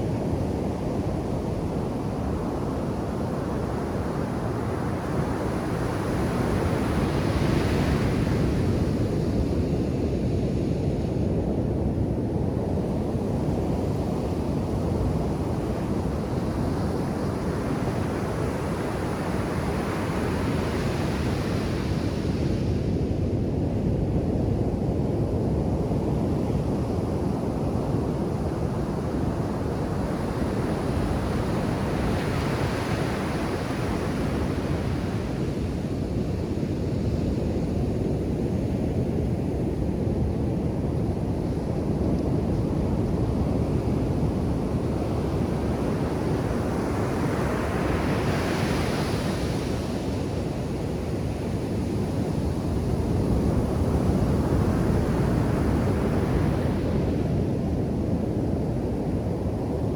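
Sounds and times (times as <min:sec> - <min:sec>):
ocean surf on a beach: 0:00.1 - 0:11.1, 0:13.5 - 0:22.9, 0:27.8 - 0:59.9.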